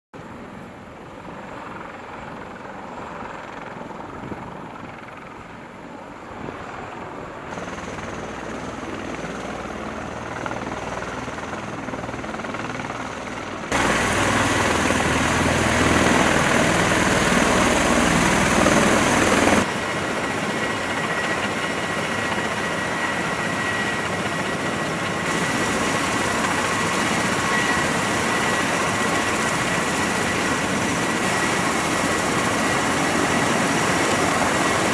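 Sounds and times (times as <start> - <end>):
helicopter rotor and engine noise: 0.2 - 34.9
high turbine whine: 6.2 - 34.9.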